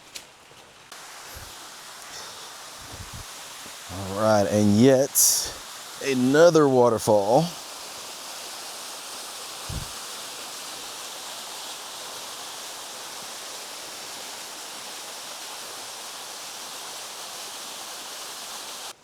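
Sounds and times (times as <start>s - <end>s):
waterfall roaring: 1.0s - 17.2s.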